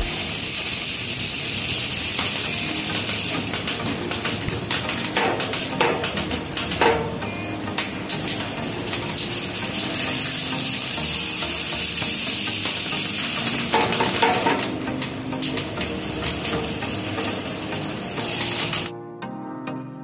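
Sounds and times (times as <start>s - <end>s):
bike chain whirring and ticking: 0.0s - 18.9s.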